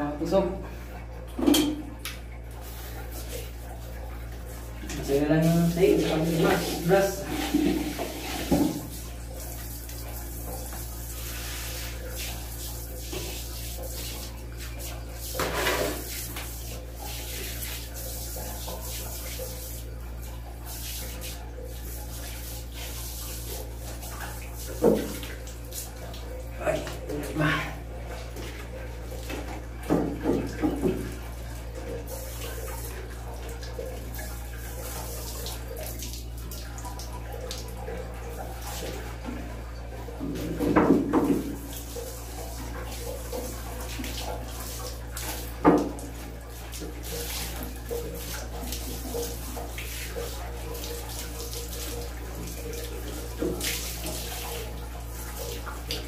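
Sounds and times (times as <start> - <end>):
toilet bowl scrubbing: 0.2 - 56.0
water splashing in toilet bowl: 0.5 - 56.0.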